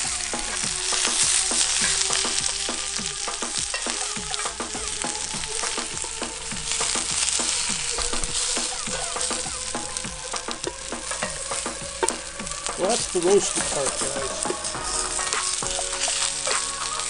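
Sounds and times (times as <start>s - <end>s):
spitting oil pops and crackles: 0.0s - 17.0s
vegetables sizzling in oil: 0.0s - 17.0s.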